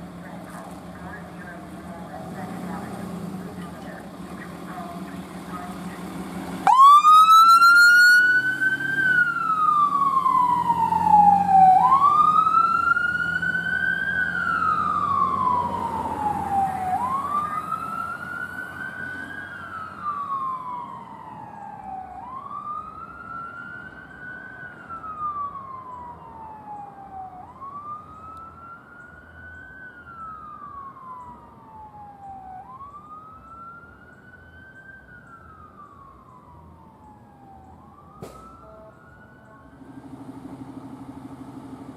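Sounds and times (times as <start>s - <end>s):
emergency vehicle siren wailing: 0.0s - 41.9s.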